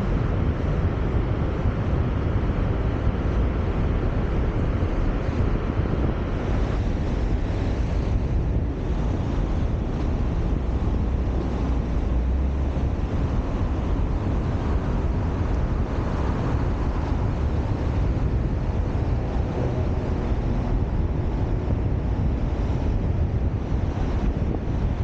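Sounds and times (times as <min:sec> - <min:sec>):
vehicle road noise: 0:00.0 - 0:25.0
wind noise on microphone: 0:00.0 - 0:25.0.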